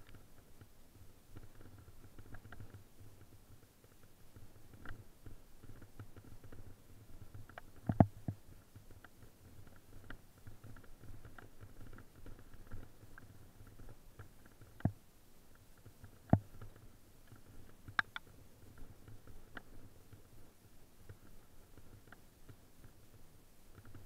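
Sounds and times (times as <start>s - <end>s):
light clicks and rattles: 0.0s - 24.0s.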